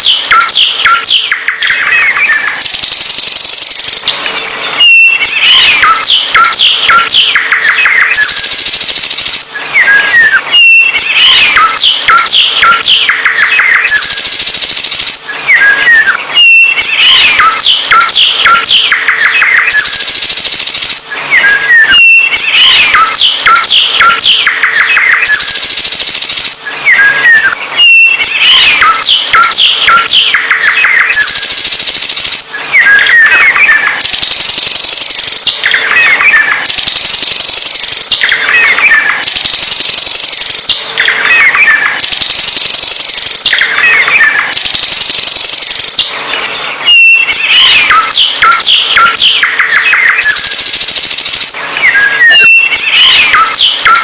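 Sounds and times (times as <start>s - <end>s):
songbird singing: 0.0s - 50.6s, 51.4s - 54.0s.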